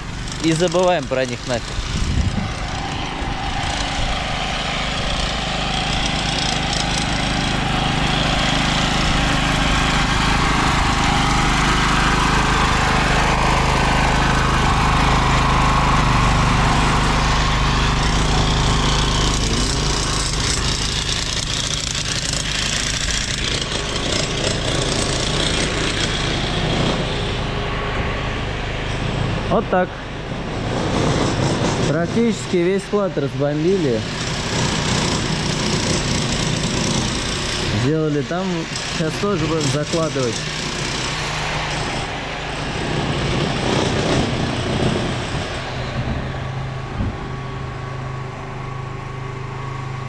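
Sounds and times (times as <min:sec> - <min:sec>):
motor engine humming: 0:00.0 - 0:50.0.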